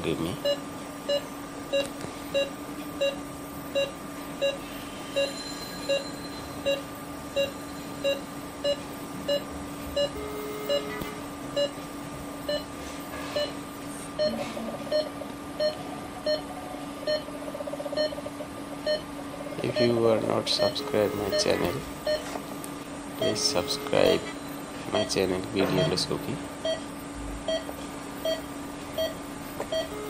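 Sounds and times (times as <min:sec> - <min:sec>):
steady electrical hum: 0:00.0 - 0:30.0
patient monitor beeping: 0:00.4 - 0:13.6, 0:14.2 - 0:17.3, 0:18.0 - 0:22.4, 0:23.2 - 0:26.9, 0:27.5 - 0:30.0.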